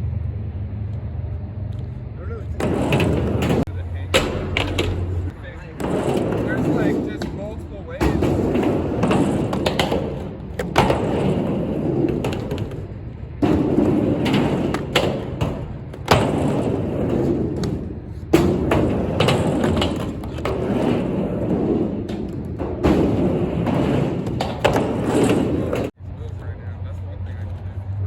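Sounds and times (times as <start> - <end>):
skateboard wheels rumbling: 0.1 - 28.0
skateboard clacking on ramp: 2.6 - 26.0.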